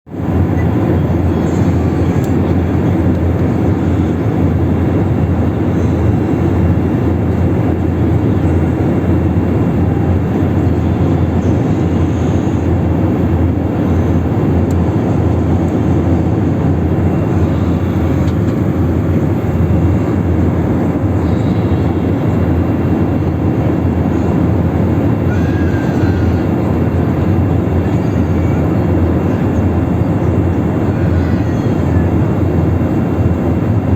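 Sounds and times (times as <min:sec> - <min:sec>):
airplane cabin engine rush: 0:00.1 - 0:33.9.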